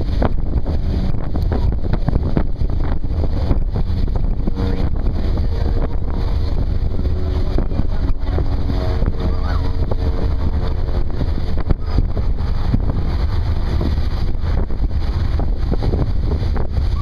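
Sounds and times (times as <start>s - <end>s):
ferry engines rumbling: 0.0s - 17.0s
wind buffeting microphone: 0.0s - 17.0s.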